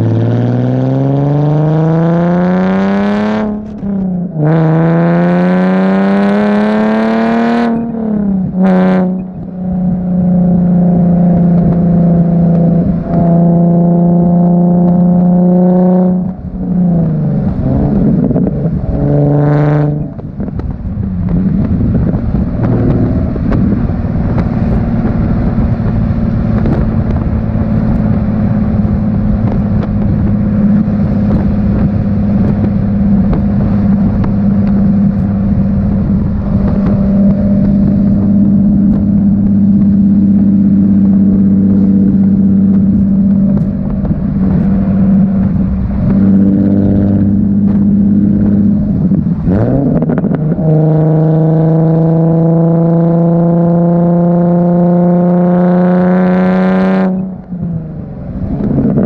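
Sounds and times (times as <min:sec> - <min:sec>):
car exhaust note: 0:00.0 - 0:59.0
rushing noise: 0:00.0 - 0:59.0.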